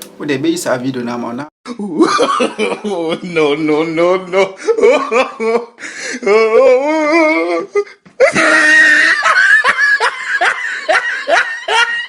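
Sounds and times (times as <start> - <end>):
person laughing: 1.7 - 12.0.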